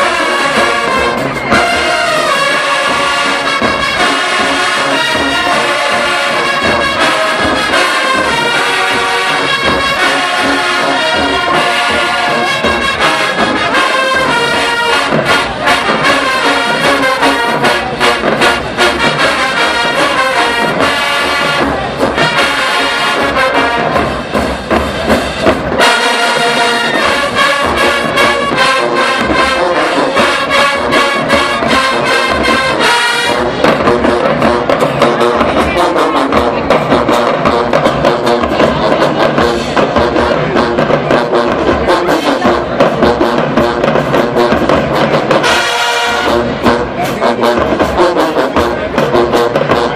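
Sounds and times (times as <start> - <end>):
brass section chords: 0.0 - 49.9
drums hitting sharply: 0.0 - 49.9.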